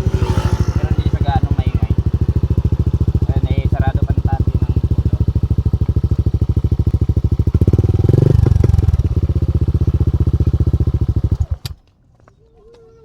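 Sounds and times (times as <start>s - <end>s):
motorcycle engine idling and revving: 0.0s - 12.8s.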